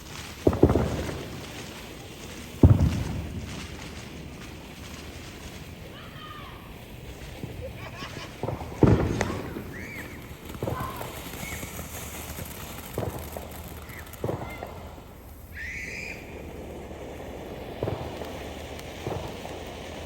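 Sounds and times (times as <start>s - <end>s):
fireworks bangs: 0.0s - 20.0s
fireworks hiss: 0.0s - 20.0s.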